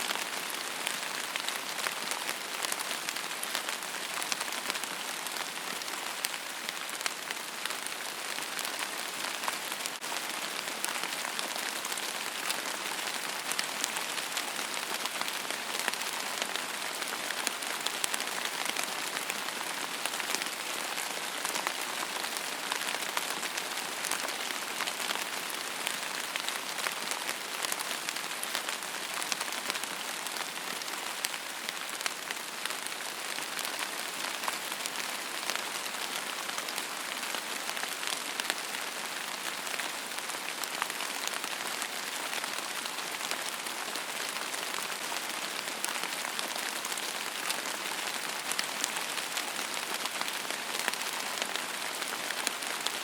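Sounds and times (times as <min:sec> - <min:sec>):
steady rain hissing: 0:00.0 - 0:53.0
rain drops ticking: 0:00.1 - 0:53.0.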